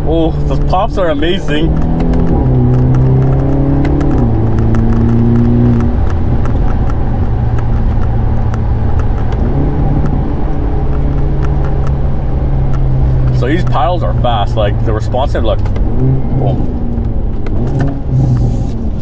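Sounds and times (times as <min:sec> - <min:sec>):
car engine and exhaust: 0:00.0 - 0:19.0
exhaust pops and crackles: 0:00.0 - 0:19.0
road noise: 0:00.0 - 0:19.0.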